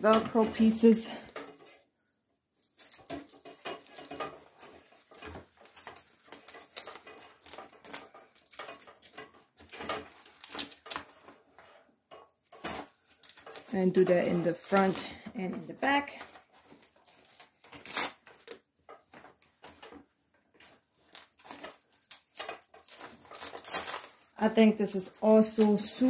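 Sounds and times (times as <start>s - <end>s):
velcro and fabric rustling: 0.0s - 26.0s.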